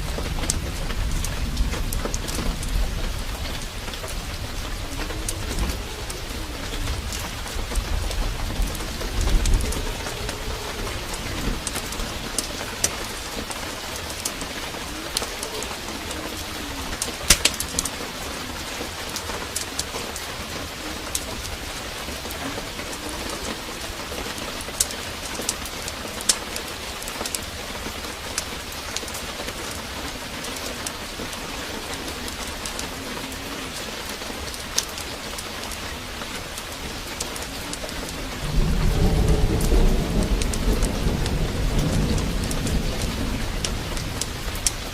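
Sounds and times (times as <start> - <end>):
heavy rain: 0.0 - 44.9
thunder rumbling: 0.0 - 44.9
wood fire crackling: 0.0 - 44.9.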